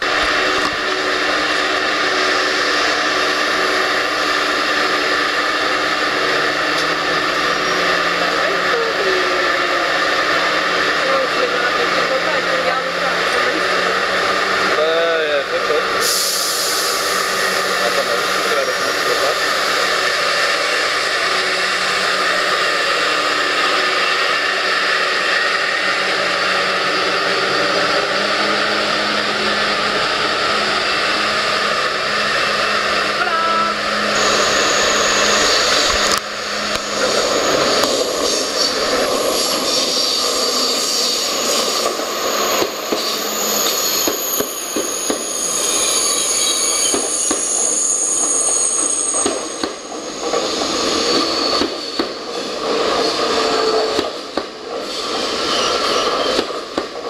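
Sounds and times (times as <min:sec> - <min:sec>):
another train rolling by: 0:00.0 - 0:57.0
high-speed train whirring: 0:00.0 - 0:57.0.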